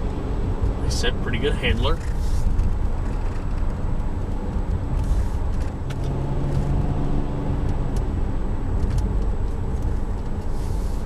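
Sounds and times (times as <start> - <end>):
car engine hum: 0.0 - 11.0
road noise rumble: 0.0 - 11.0.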